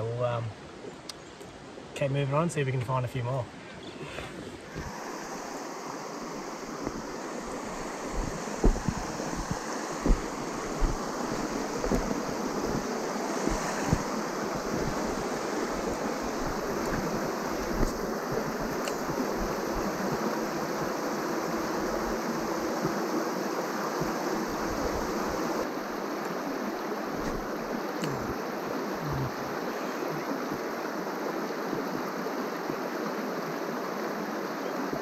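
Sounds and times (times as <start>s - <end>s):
creek water rushing over rocks: 3.5s - 35.0s.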